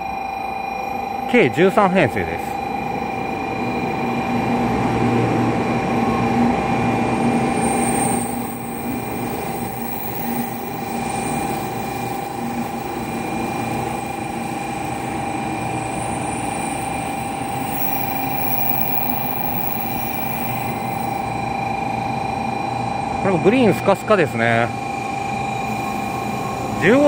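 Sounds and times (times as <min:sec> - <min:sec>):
train rumbling with high whine: 0:00.0 - 0:27.0.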